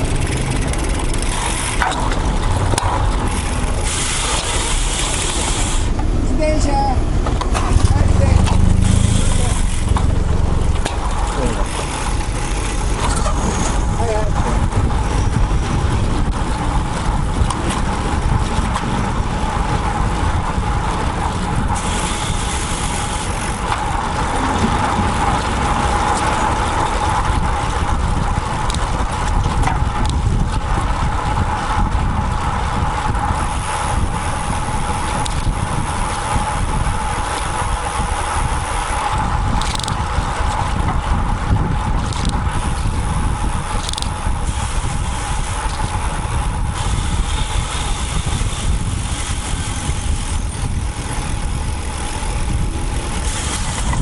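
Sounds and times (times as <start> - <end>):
mid-pitched hum: 0.0 - 54.0
wind buffeting microphone: 0.0 - 54.0.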